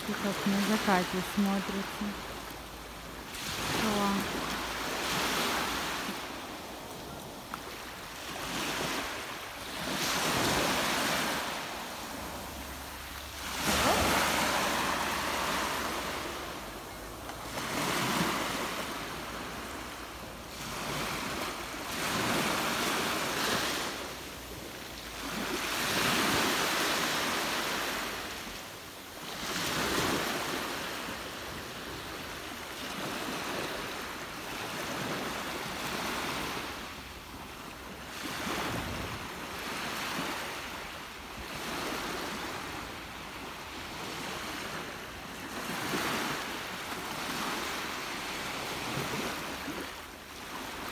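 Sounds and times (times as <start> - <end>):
waves breaking on a pebble beach: 0.0 - 50.9.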